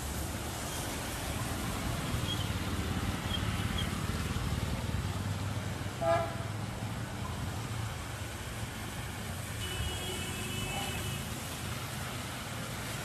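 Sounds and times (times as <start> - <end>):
traffic on a wet road: 0.0 - 13.0.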